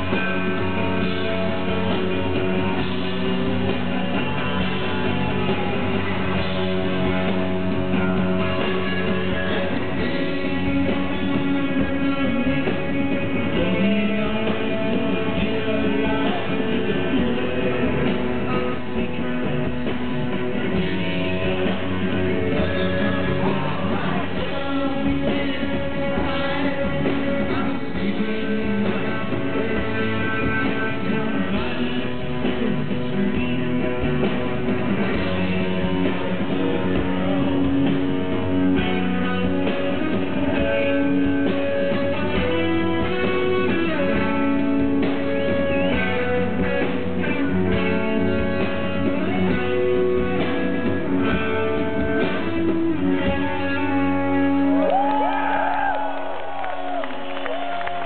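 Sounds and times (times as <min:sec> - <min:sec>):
live rock band with electric guitars: 0:00.0 - 0:58.0.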